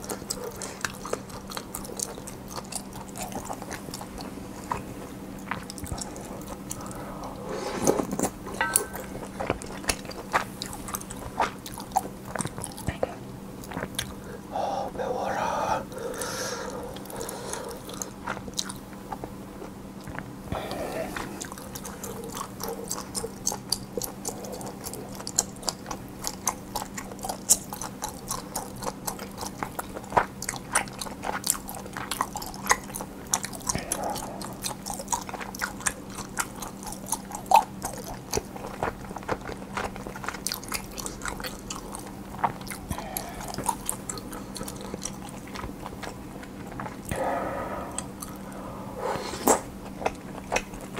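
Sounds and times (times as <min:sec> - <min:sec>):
person chewing and biting: 0:00.0 - 0:14.2, 0:15.4 - 0:50.9
faint steady hum: 0:00.0 - 0:50.9.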